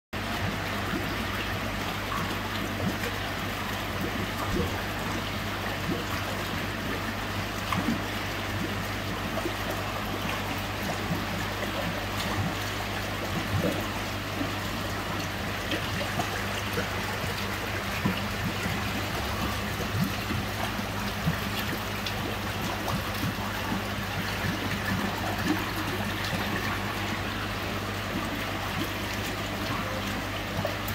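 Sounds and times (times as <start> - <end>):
steady low hum: 0.2 - 30.9
water trickling and bubbling: 0.2 - 30.9.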